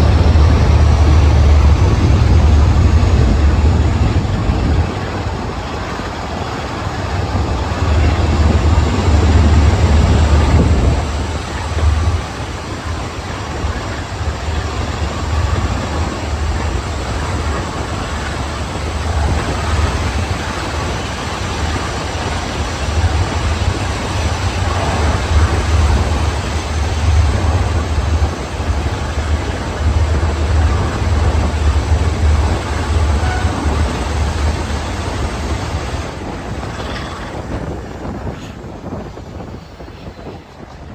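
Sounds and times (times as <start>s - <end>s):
diesel locomotive engine roaring: 0.0s - 40.9s.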